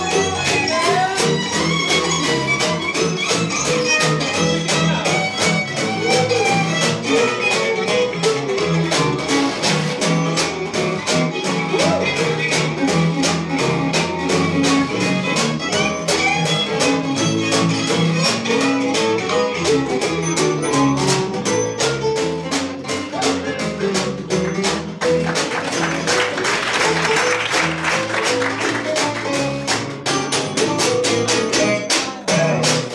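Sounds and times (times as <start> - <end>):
bowed fiddle: 0.0 - 32.8
upright bass: 0.0 - 32.9.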